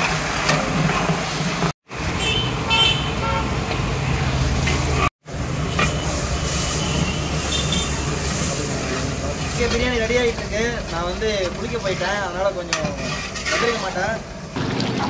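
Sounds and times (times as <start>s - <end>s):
hot oil sizzling in pot: 0.0s - 2.3s, 3.5s - 15.0s.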